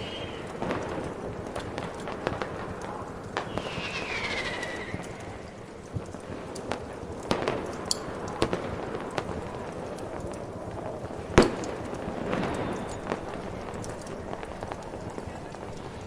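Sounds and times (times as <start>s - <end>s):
fireworks bangs and pops: 0.0s - 16.0s
steady background hiss: 0.0s - 16.0s.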